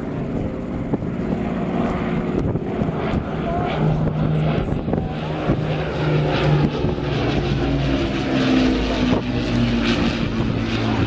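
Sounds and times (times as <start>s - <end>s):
aircraft engines flying over: 0.0s - 11.0s.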